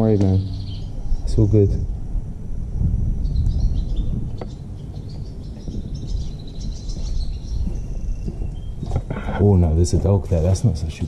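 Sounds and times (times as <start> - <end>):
small birds chirping: 0.0 - 2.0, 2.8 - 11.0
steady low rumble: 0.0 - 11.0.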